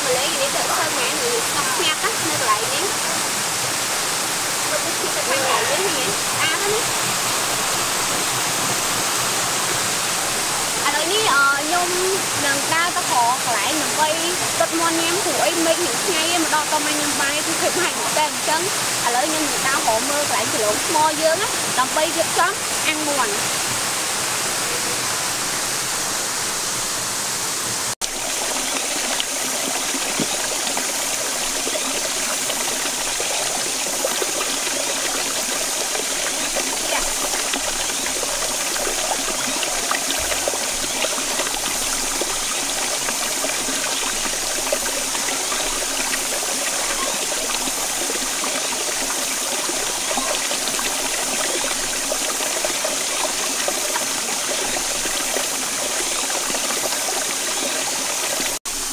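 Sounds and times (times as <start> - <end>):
stream running over rocks: 0.0 - 58.9.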